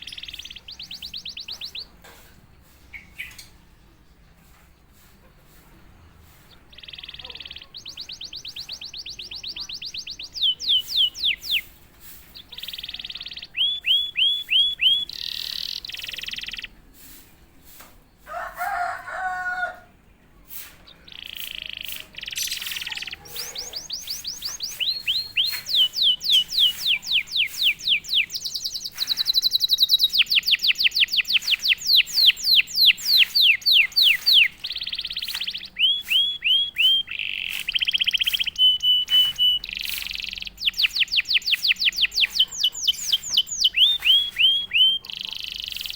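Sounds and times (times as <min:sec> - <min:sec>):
canary singing: 0:00.0 - 0:02.0, 0:02.9 - 0:04.4, 0:06.4 - 0:16.8, 0:20.9 - 0:45.9.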